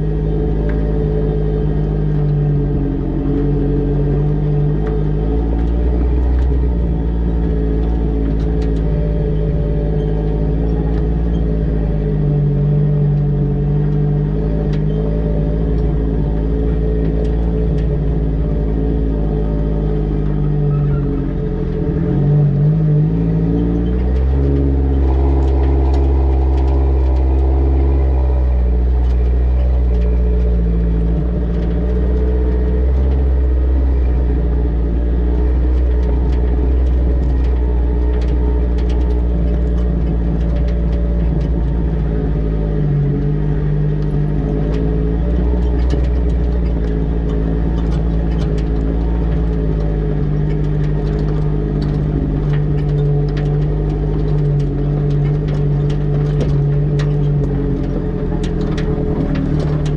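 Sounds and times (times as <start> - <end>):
low rumble: 0.0 - 59.9
vehicle engine running: 0.0 - 59.9.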